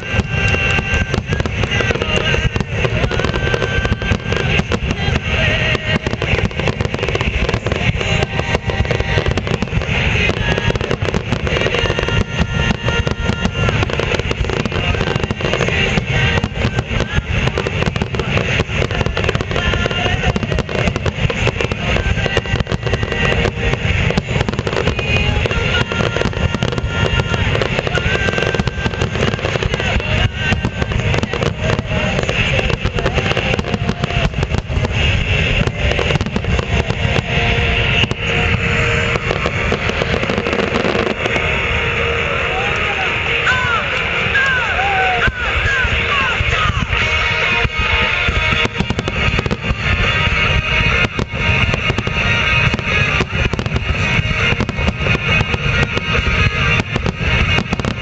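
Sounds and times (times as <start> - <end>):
fireworks booming and crackling: 0.0 - 58.0
music playing: 0.0 - 58.0.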